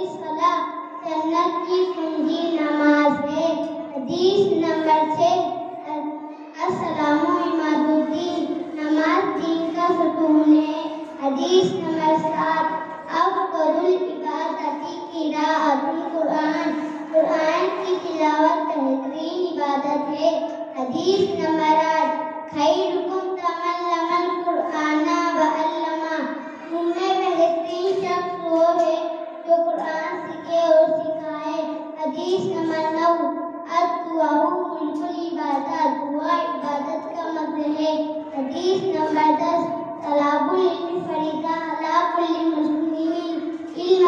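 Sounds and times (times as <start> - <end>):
boy chanting into microphone: 0.0 - 44.0.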